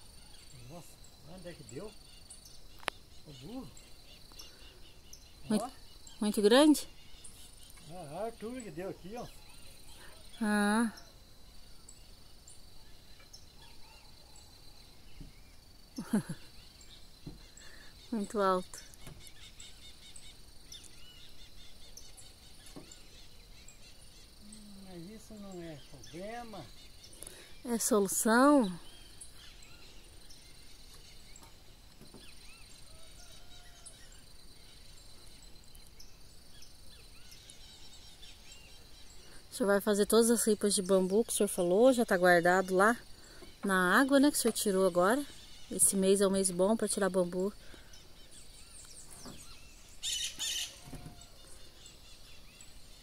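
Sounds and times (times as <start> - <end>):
insect trill: 0.0 - 53.0
small bird chirps: 0.0 - 53.0.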